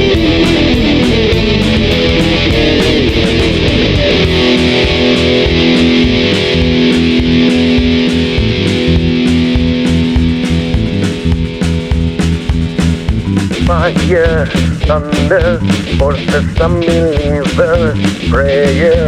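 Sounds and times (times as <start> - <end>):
bass: 0.0 - 19.0
distorted electric guitars: 0.0 - 19.0
driving drum beat: 0.0 - 19.0.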